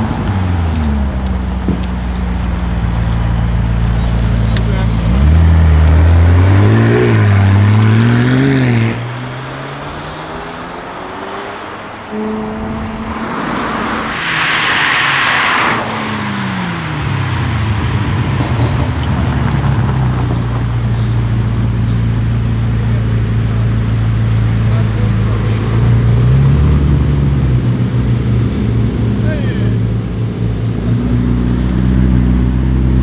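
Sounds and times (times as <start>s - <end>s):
car engine accelerating hard: 0.0s - 33.0s.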